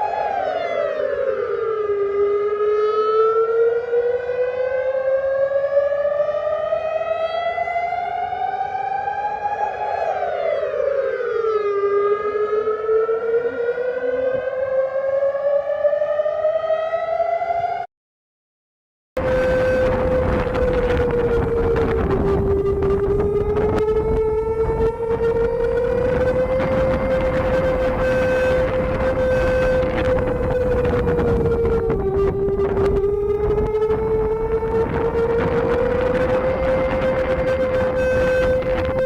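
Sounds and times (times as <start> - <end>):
reversed siren wail: 0.0 - 17.9, 19.2 - 39.0.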